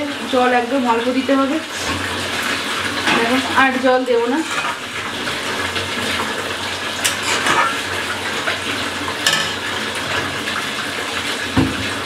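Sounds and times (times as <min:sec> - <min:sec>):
curry hissing on stove: 0:00.3 - 0:10.8.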